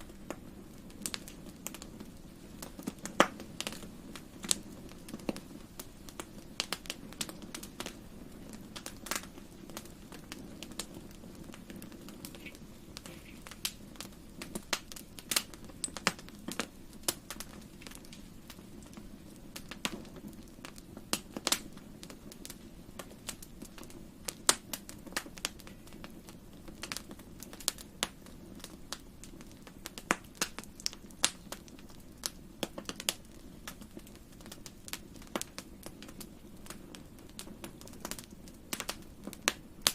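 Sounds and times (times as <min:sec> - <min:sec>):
fire crackling and popping: 0:00.0 - 0:39.9
low rush of flames: 0:00.0 - 0:39.9.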